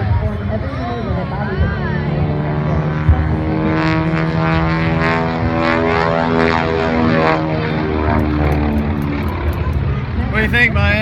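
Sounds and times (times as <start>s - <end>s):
propeller plane engine: 0.0s - 11.0s.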